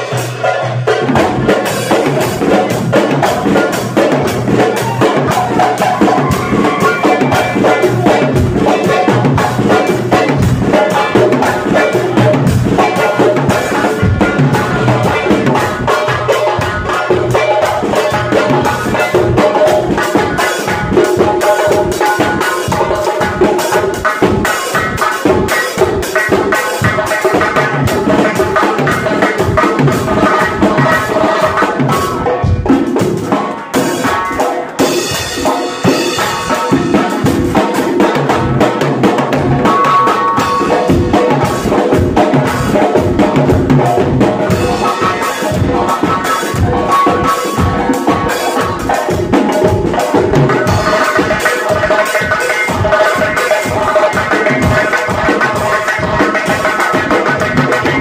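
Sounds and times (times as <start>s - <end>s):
drum kit: 0.0s - 58.0s
frame drums beating: 0.0s - 58.0s.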